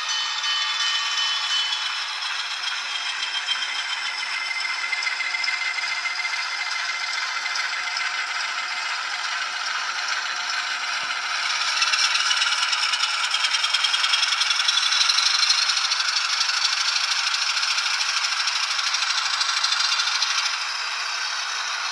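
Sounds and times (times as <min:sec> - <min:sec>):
diesel engine sound from tiny speaker: 0:00.0 - 0:21.9
model train rattle: 0:00.0 - 0:21.9.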